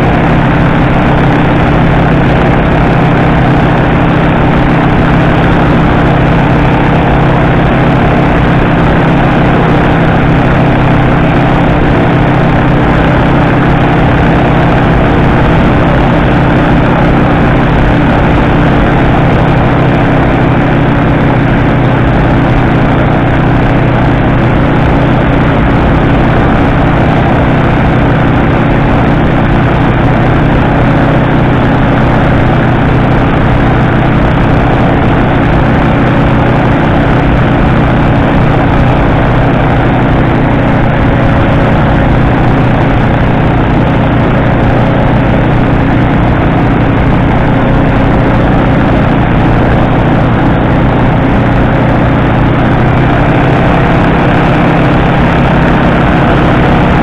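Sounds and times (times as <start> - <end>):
ultralight engine drone: 0.0 - 57.0.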